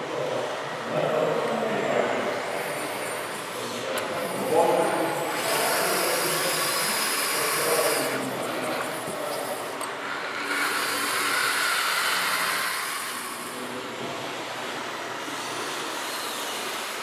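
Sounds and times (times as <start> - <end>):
hydraulic pump whirring: 0.0 - 17.0.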